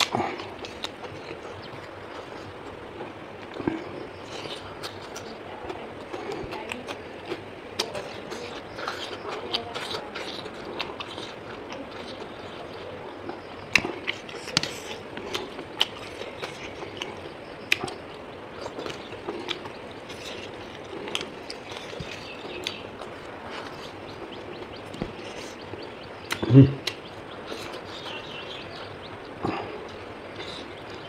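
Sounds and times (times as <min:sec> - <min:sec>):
chewing and mouth smacking: 0:00.0 - 0:31.0.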